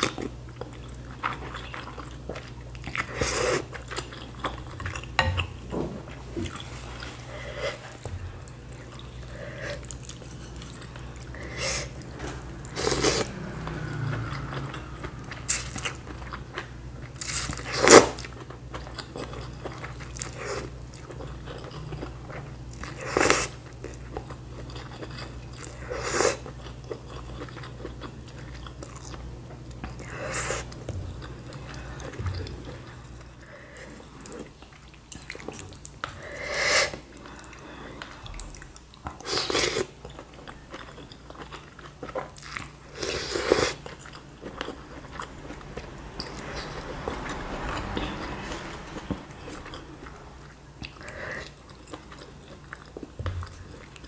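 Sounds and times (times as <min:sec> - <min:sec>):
person chewing: 0:00.0 - 0:05.7, 0:06.4 - 0:54.0.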